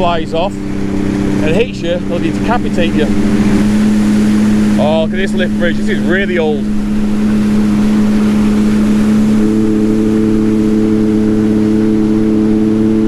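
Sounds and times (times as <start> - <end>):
jet ski engine droning: 0.0 - 13.0.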